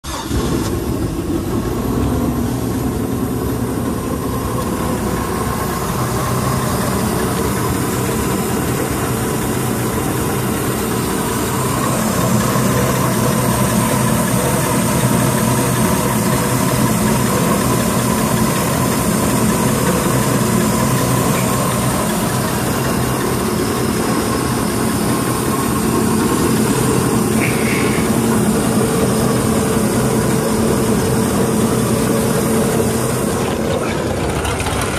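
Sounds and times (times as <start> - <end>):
boat engine idling: 0.0 - 34.9.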